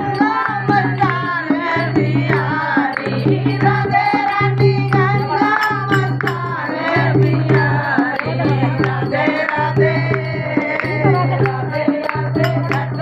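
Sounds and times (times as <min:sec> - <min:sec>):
barrel drum beat: 0:00.0 - 0:13.0
women singing devotional song: 0:00.0 - 0:13.0.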